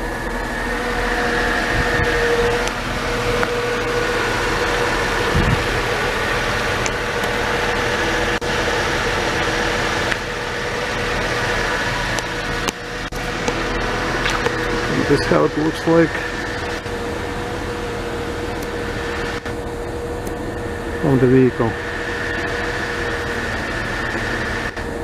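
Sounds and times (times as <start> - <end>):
car engine idling: 0.0 - 25.0
faint high whine: 0.0 - 25.0.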